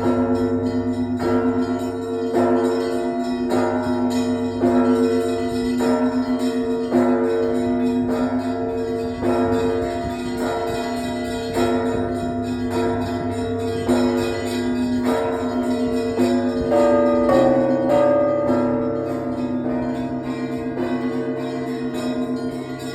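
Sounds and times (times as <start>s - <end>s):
church bells pealing: 0.0s - 22.9s
low hum of large bell: 0.0s - 22.9s.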